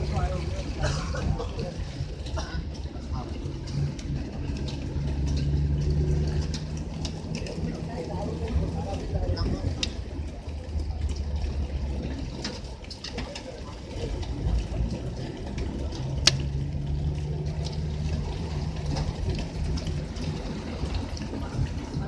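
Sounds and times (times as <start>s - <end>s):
engine rumbling: 0.0s - 22.0s
tyres swishing through water: 0.0s - 22.0s.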